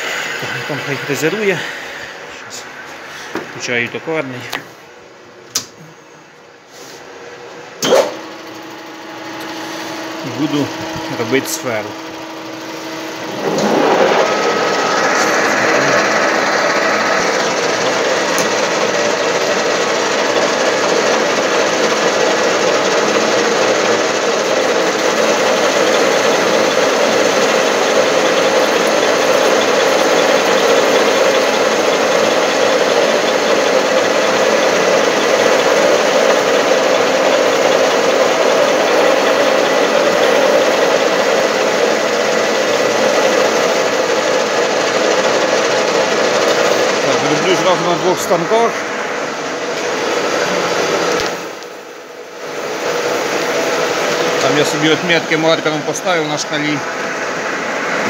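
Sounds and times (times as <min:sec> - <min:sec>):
metal lathe running: 0:00.0 - 0:03.4, 0:07.8 - 0:58.0
milling machine running: 0:00.0 - 0:04.6, 0:07.8 - 0:58.0.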